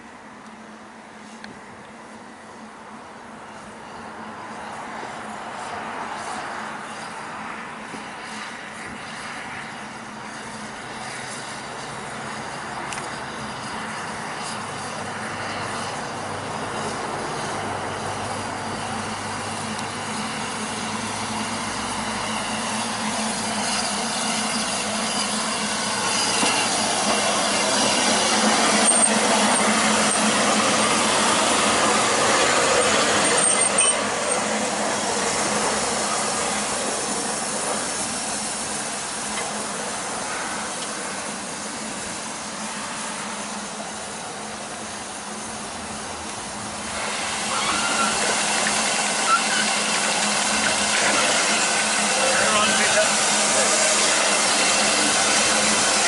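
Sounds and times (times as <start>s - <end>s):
train running on rails: 0.0s - 56.0s
high wheel squeals: 3.4s - 56.0s.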